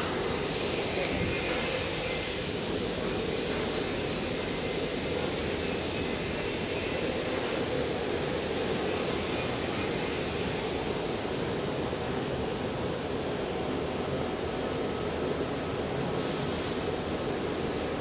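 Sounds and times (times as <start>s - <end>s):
ventilation fans running: 0.0s - 18.0s.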